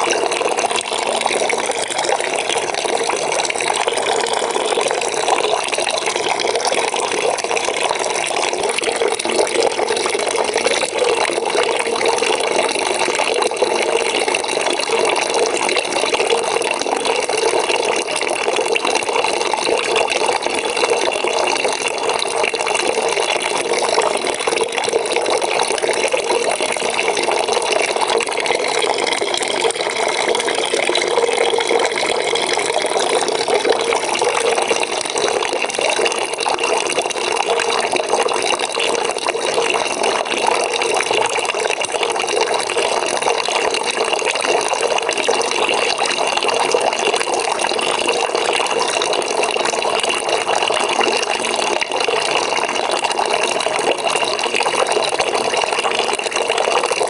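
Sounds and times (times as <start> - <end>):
water pouring into a bucket: 0.0 - 57.0.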